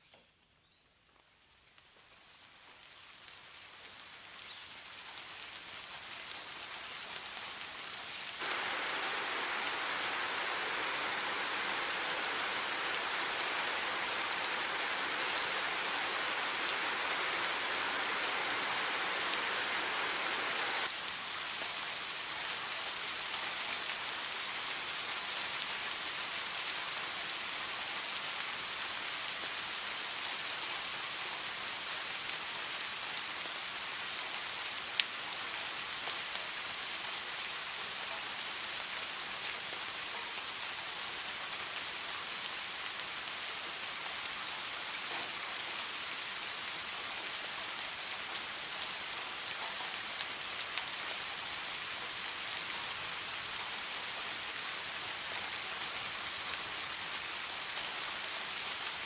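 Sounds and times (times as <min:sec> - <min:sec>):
steady rain hiss: 0:00.4 - 0:59.0.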